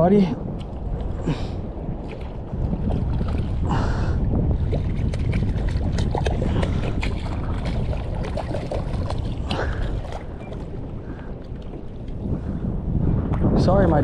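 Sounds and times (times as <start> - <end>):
wind rumbling on microphone: 0.0 - 14.0
water splashing against kayak: 0.5 - 14.0.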